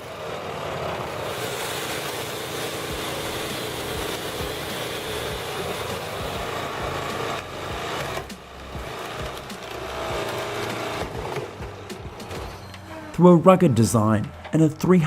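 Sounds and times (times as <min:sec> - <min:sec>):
saw cutting through timber: 0:00.0 - 0:14.6.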